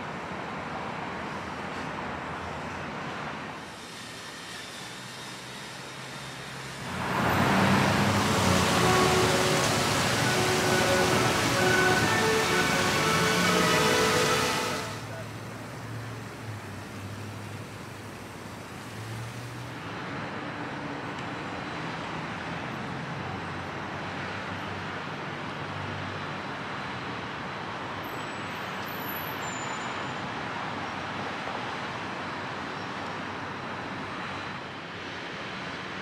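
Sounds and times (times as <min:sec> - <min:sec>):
passing vehicles: 0:00.0 - 0:36.0.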